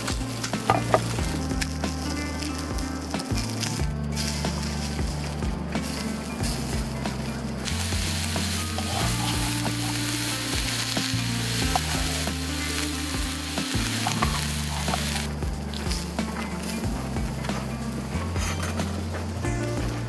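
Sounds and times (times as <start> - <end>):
food sizzling in a pan: 0.0 - 19.2
soft background music: 0.0 - 20.0.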